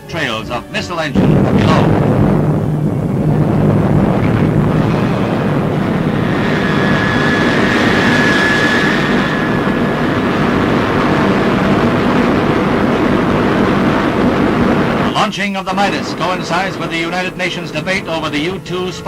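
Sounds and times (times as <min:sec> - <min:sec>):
faint high whine: 0:00.0 - 0:19.0
rocket engines roaring: 0:00.0 - 0:19.0.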